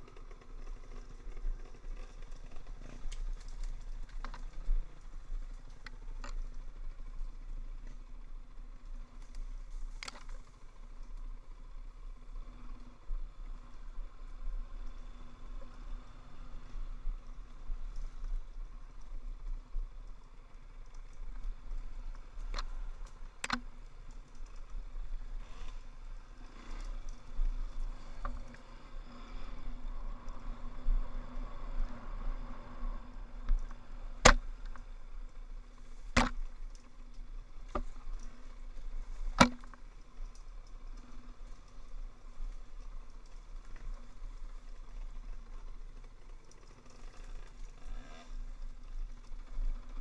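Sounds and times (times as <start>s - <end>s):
muffled motorcycle engine: 0.0s - 50.0s.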